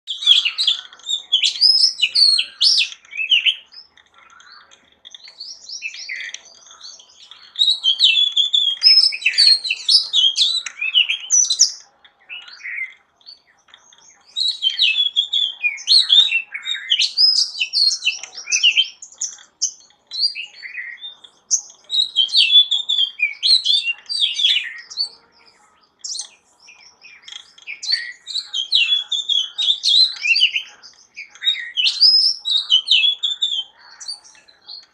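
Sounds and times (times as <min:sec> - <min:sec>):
birds chirping and singing: 0:00.1 - 0:34.9.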